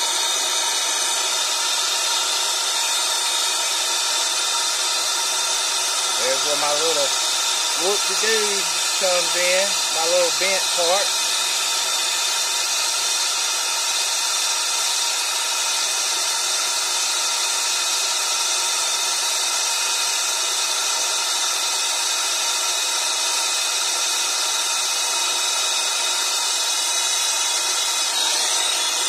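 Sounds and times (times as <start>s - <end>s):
torch flame hissing: 0.0s - 29.0s.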